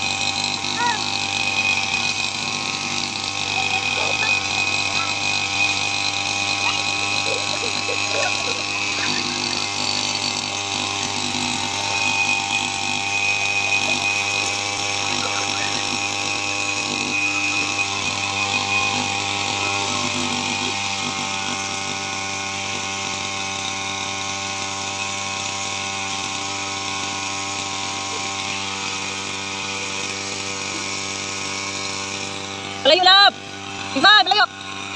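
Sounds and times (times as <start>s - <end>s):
brush cutter engine running: 0.0s - 34.9s.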